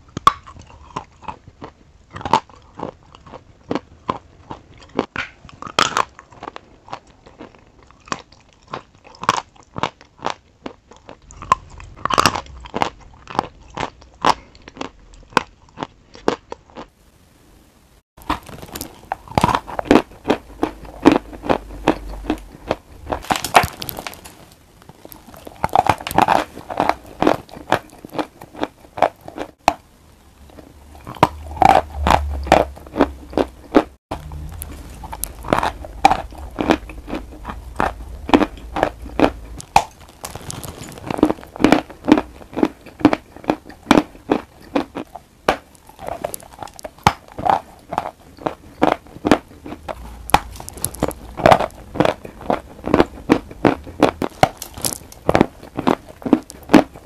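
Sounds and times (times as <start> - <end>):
chalk crunching while chewed: 0.1 - 16.9, 18.2 - 29.8, 30.5 - 57.0.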